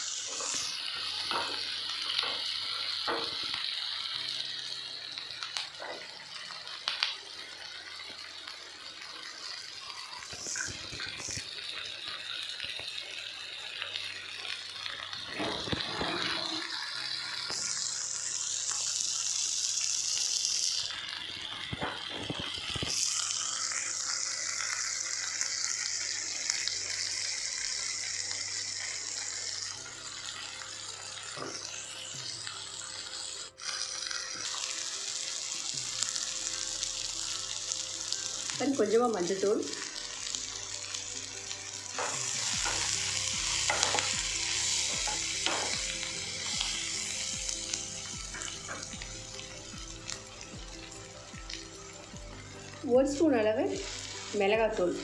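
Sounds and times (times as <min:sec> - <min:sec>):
onions sizzling in oil: 0:00.0 - 0:55.0.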